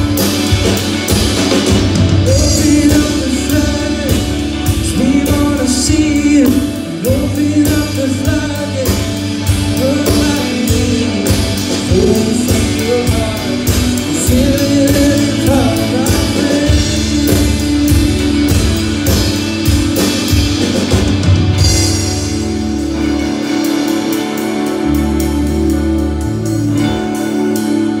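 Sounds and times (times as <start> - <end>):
drum kit beat: 0.0 - 28.0
electric bass: 0.0 - 28.0
electric lead guitar: 0.0 - 28.0.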